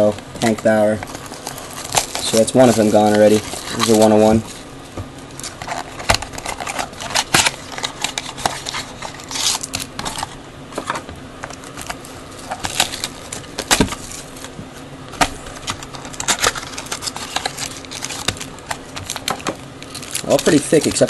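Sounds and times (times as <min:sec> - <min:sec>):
cardboard rustling: 0:00.4 - 0:21.0.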